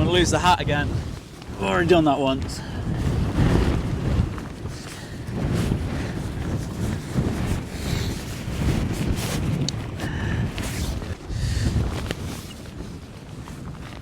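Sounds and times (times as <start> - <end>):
strong gusty wind on microphone: 0.0 - 14.0.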